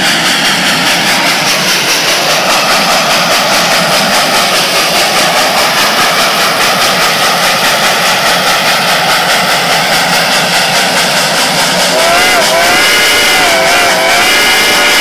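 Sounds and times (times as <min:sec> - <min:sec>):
steam locomotive exhaust beating: 0:00.0 - 0:15.0.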